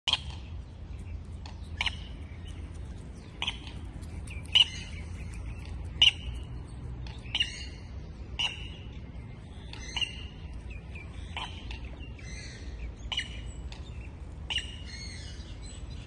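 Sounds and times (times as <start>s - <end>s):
low steady rumble: 0.1s - 16.0s.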